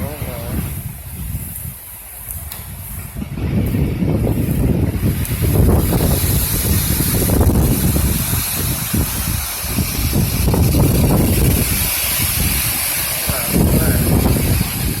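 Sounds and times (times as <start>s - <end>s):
steady hiss: 0.0s - 15.0s
wind buffeting microphone: 0.0s - 15.0s.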